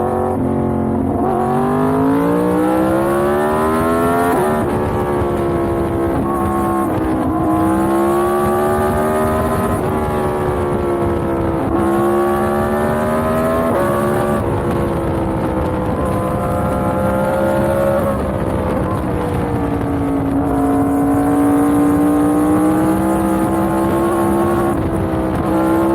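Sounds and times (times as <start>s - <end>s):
motorcycle engine revving: 0.0s - 25.9s
wind noise on microphone: 0.0s - 25.9s.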